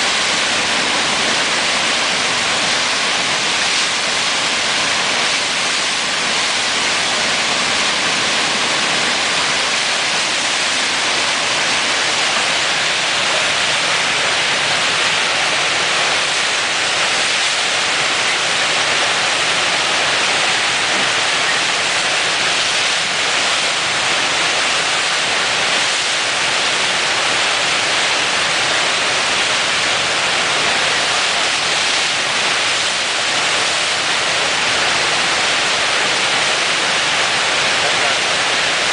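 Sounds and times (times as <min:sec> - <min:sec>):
whitewater rushing: 0:00.0 - 0:38.9.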